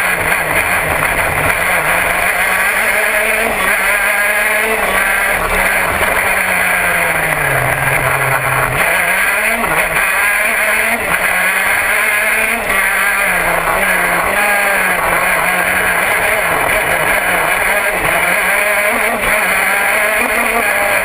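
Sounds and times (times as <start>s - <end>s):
kart engine revving: 0.0s - 21.0s.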